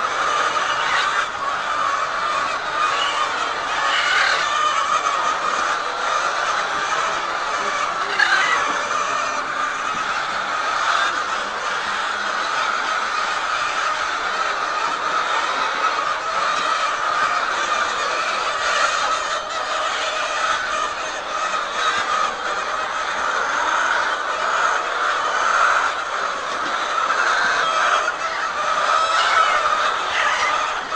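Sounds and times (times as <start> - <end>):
hens clucking: 0.0 - 30.9.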